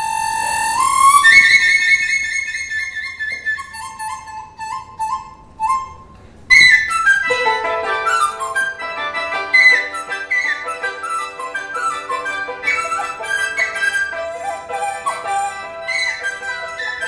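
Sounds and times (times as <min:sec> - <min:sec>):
bamboo flute playing solo: 0:00.0 - 0:17.0.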